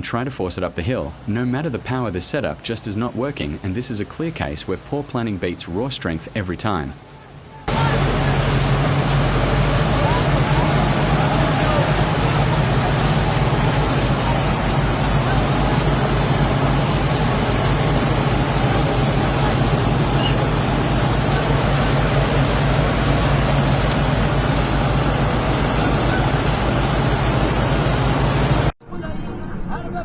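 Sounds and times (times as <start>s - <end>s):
tractor engines straining: 0.0s - 28.8s.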